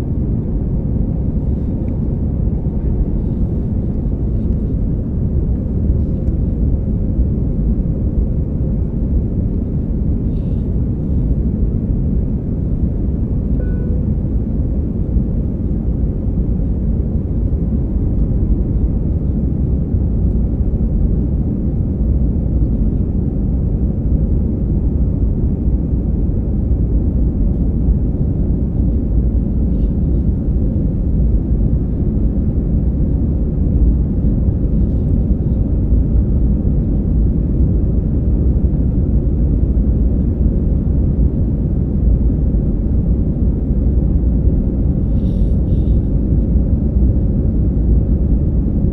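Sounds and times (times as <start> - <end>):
faint steady hum: 0.0 - 48.9
jet engine rumble: 0.0 - 48.9.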